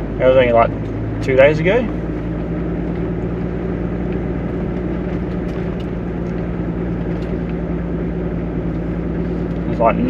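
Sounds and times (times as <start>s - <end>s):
car engine hum: 0.0s - 10.0s.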